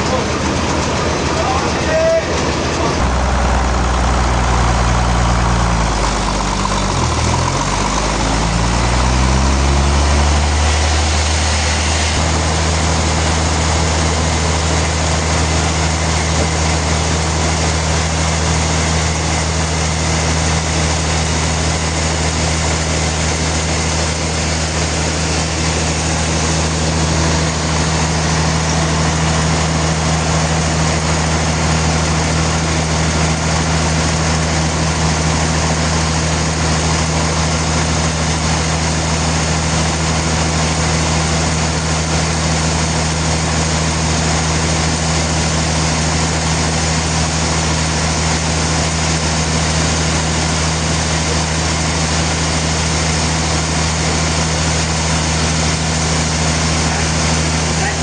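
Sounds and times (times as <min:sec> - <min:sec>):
sawmill engine humming: 0:00.0 - 0:58.0.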